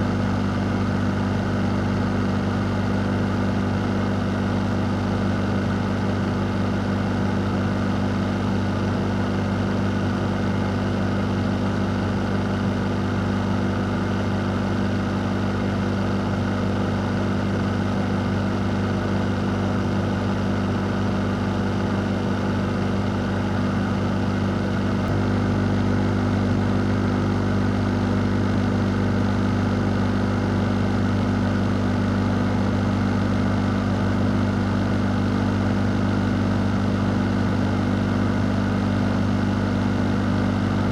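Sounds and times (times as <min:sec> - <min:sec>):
fan motor hum: 0:00.0 - 0:40.9.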